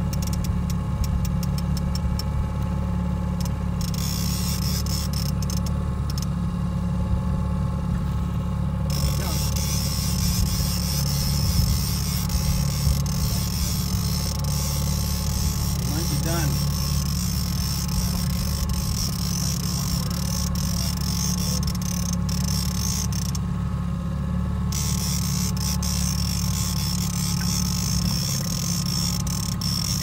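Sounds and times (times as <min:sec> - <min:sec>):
fishing reel clicking: 0:00.0 - 0:02.3, 0:03.3 - 0:06.3, 0:08.9 - 0:23.4, 0:24.7 - 0:30.0
outboard motor running: 0:00.0 - 0:30.0.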